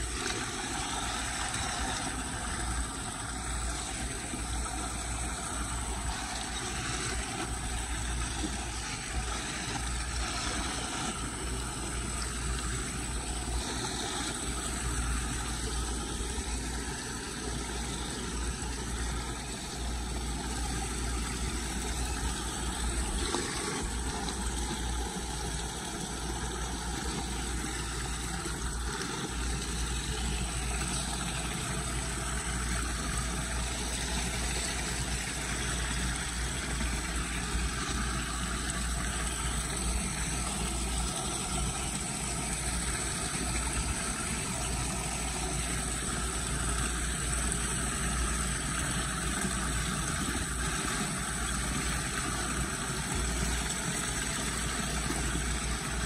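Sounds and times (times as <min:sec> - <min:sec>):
water rushing down drain: 0:00.0 - 0:56.0.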